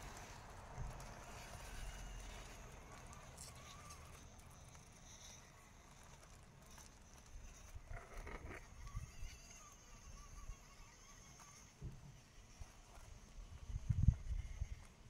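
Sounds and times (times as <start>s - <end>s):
toy truck tyres on gravel: 0.0s - 15.0s.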